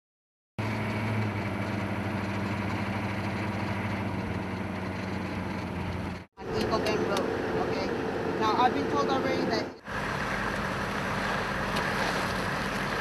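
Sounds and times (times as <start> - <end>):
vehicle engine idling: 0.6 - 13.0.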